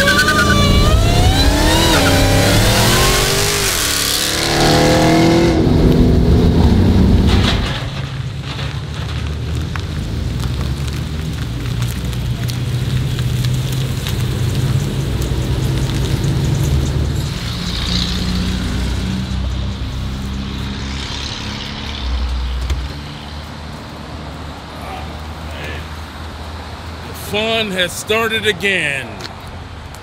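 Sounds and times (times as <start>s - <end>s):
car engine droning: 0.0s - 29.0s
road noise: 0.0s - 30.0s.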